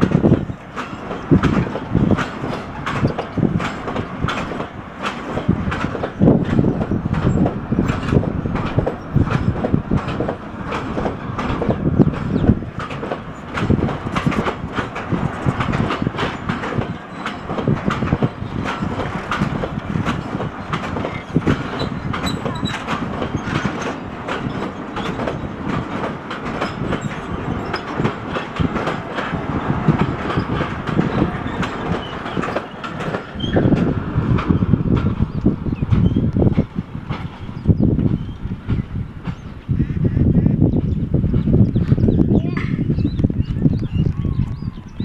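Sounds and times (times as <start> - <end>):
steady train rumble: 0.0 - 45.0
train wheels clacking on rails: 0.0 - 45.0.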